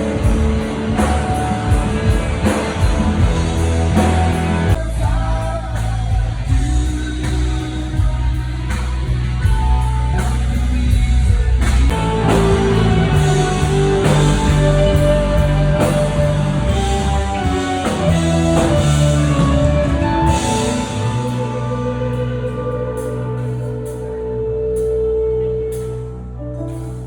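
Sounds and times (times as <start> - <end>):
rock band playing live: 0.0 - 27.0.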